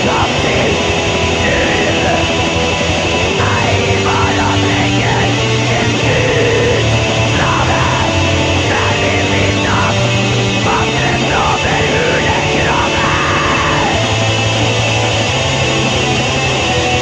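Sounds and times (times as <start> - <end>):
distorted guitars: 0.0 - 17.0
drums: 0.0 - 17.0.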